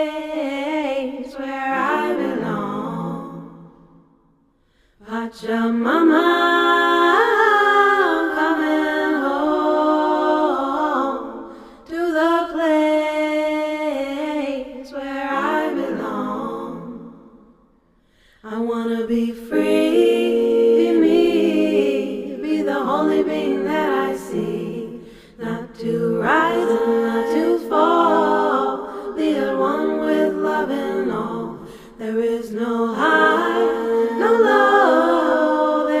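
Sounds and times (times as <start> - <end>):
a cappella harmony singing: 0.0 - 36.0.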